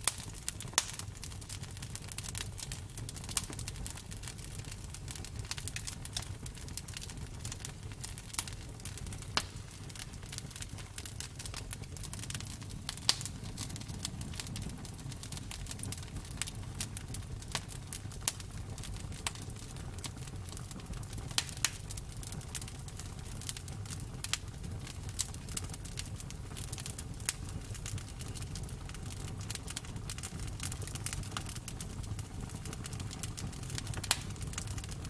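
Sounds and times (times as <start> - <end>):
flames rumbling: 0.0 - 35.0
wood crackling and popping: 0.0 - 35.0.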